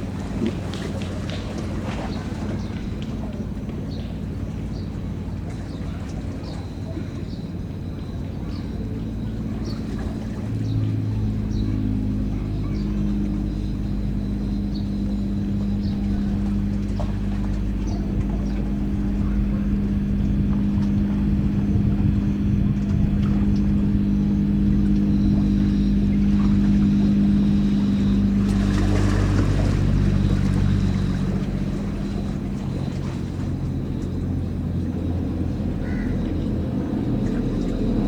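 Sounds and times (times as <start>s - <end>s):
ship engines droning: 0.0s - 38.0s.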